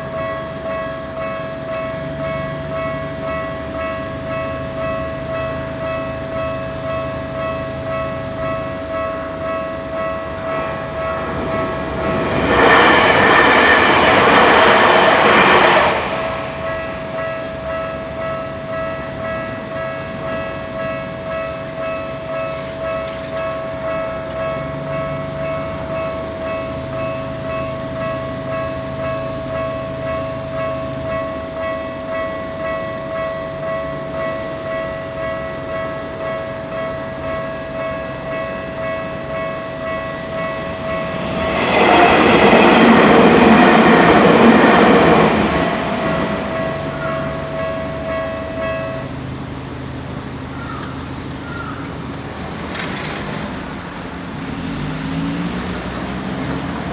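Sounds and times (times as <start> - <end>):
level crossing alarm ringing: 0.0 - 51.4
train passing: 0.0 - 56.9.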